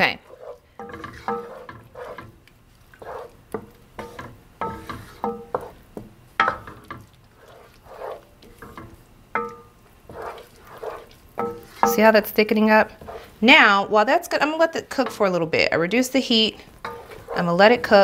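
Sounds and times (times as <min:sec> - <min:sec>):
spoon scraping pot: 0:00.0 - 0:13.7, 0:16.2 - 0:18.0
wooden spoon stirring sauce: 0:00.0 - 0:18.0.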